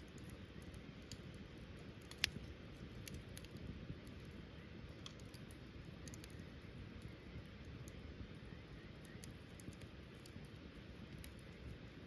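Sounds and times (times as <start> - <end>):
low steady rumble: 0.0 - 12.0
wood fire crackling: 0.0 - 12.0.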